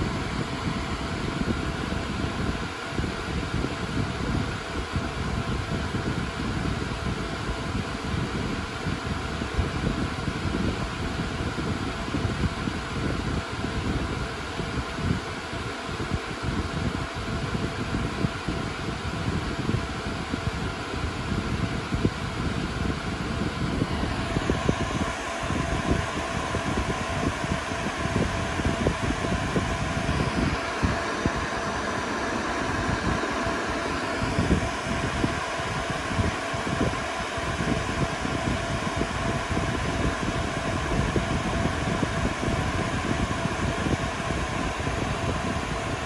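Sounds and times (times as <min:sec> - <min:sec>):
cooling fans whirring: 0:00.0 - 0:46.0.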